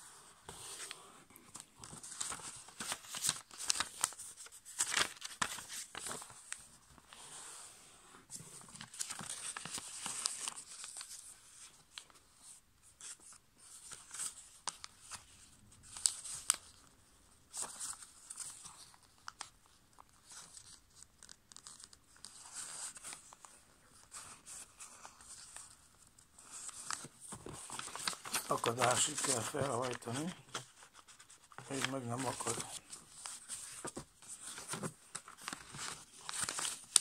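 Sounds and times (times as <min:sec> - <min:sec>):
paper rustling and creasing: 0:00.0 - 0:07.7, 0:08.3 - 0:37.0.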